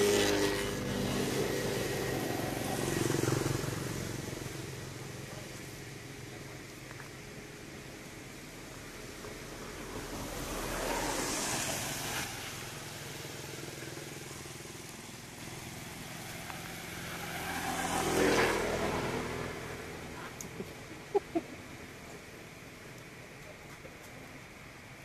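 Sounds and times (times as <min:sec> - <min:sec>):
road vehicles passing: 0:00.0 - 0:25.0.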